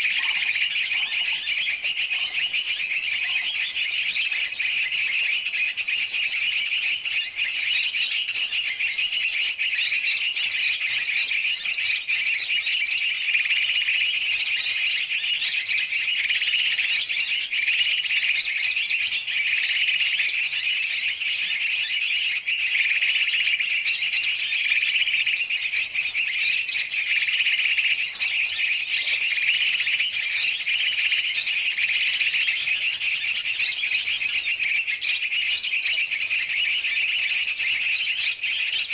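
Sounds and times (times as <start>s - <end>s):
songbirds chirping and chattering: 0.0s - 38.9s.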